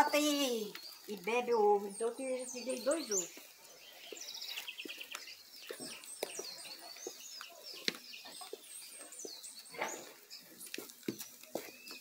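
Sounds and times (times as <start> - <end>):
birds chirping: 0.0 - 12.0
soft footsteps on dirt: 0.0 - 12.0.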